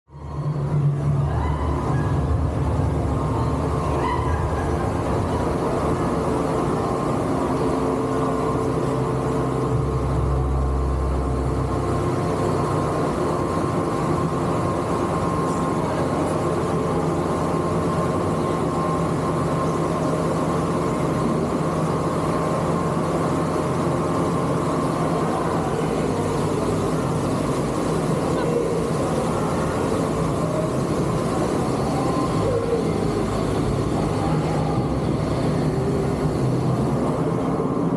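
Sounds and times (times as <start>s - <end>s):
deeper hum: 0.1s - 37.9s
machinery drone: 0.1s - 37.9s.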